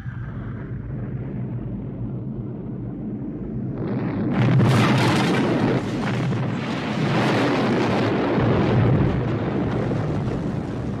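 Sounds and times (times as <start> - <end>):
rumbling explosion blast: 0.0 - 11.0.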